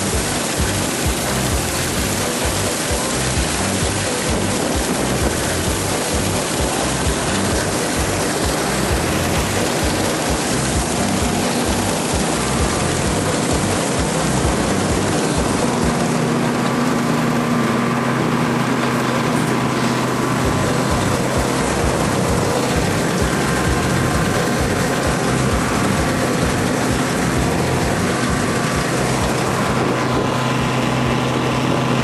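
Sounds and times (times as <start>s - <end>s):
faint steady hums: 0.0s - 31.4s
combine harvester engine and threshing: 0.0s - 32.0s.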